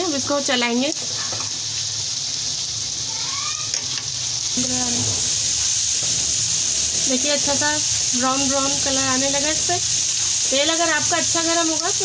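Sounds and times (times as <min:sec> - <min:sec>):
fries sizzling in oil: 0:00.0 - 0:12.0.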